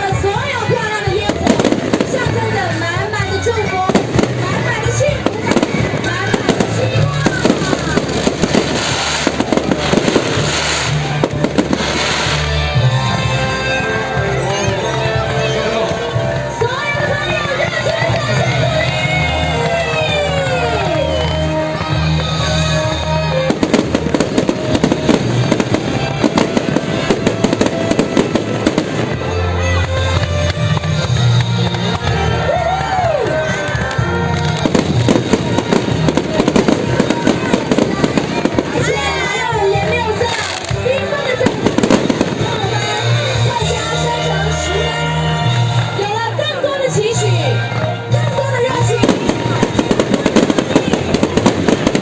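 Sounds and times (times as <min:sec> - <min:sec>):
fireworks bursting and crackling: 0:00.0 - 0:13.8, 0:16.7 - 0:52.0
music playing: 0:00.0 - 0:52.0.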